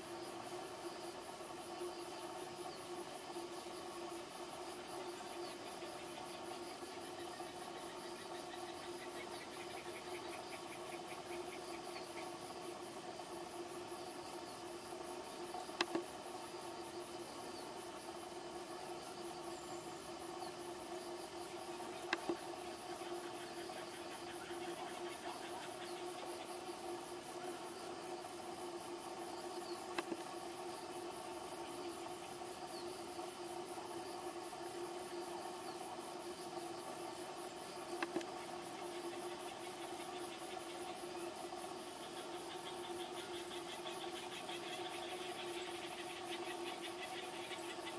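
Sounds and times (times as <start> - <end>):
insects chirping: 0.0 - 47.9
steady hum: 0.0 - 47.9.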